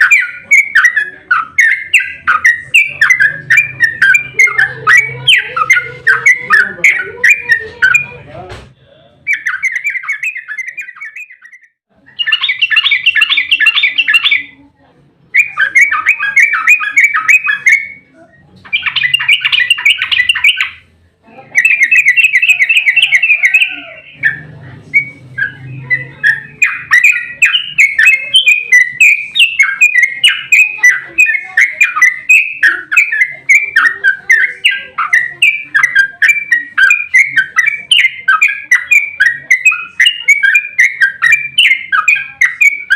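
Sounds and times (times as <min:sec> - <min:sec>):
bird singing rapid chattering song: 0:00.0 - 0:08.3, 0:09.3 - 0:14.6, 0:15.3 - 0:20.9, 0:21.5 - 0:42.9.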